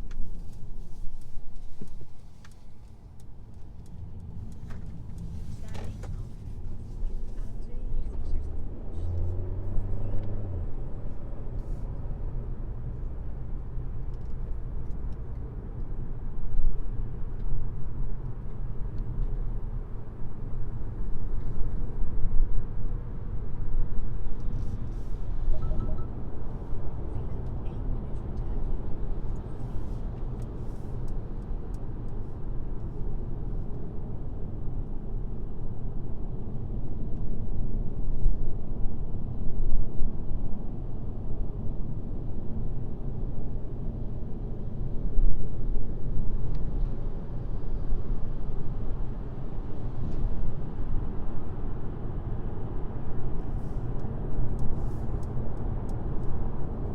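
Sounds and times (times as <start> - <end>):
road and tyre noise: 0.0 - 56.9.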